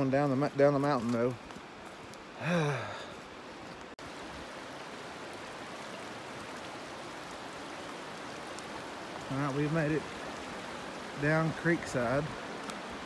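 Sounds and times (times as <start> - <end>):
creek flowing over stones: 0.0 - 13.0.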